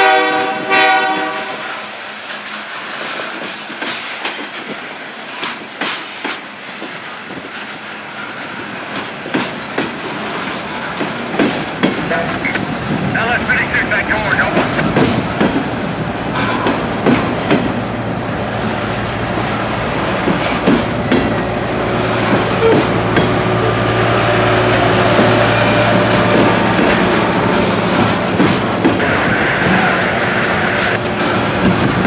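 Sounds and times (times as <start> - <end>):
train wheels clickety-clack: 0.0 - 13.1, 14.1 - 24.1, 24.8 - 32.0.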